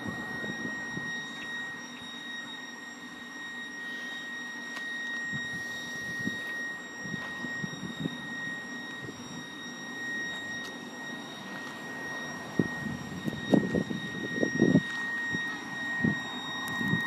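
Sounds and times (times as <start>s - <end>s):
level crossing alarm high tone: 0.0s - 17.0s.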